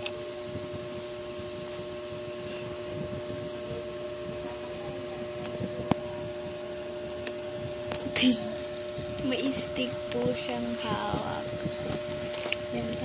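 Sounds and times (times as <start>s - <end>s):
two-tone mechanical hum: 0.0s - 13.0s.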